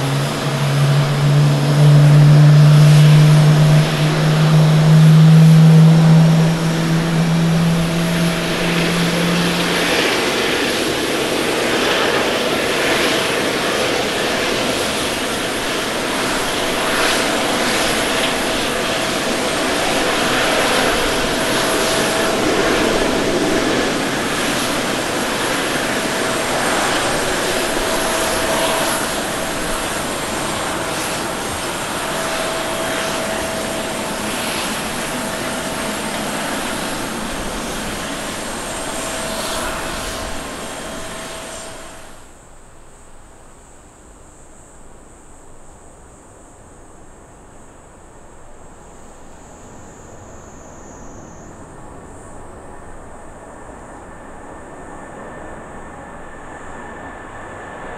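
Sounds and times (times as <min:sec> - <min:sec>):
jet engines low drone: 0:00.0 - 0:57.9
jet engines rushing with whine: 0:00.0 - 0:57.9.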